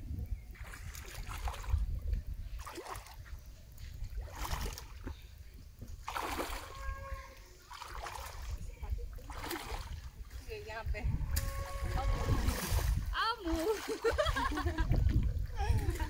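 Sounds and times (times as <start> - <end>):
steady low rumble: 0.0 - 16.0
water splashing around wading legs: 0.6 - 3.4, 4.1 - 5.2, 6.0 - 16.0.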